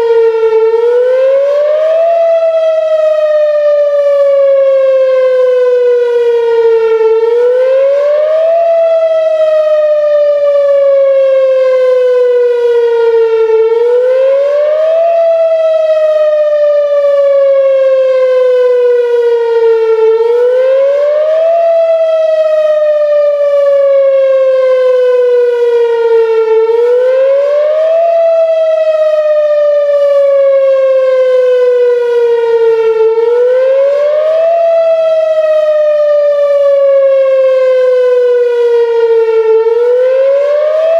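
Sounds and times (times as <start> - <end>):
warning siren wailing: 0.0 - 40.9.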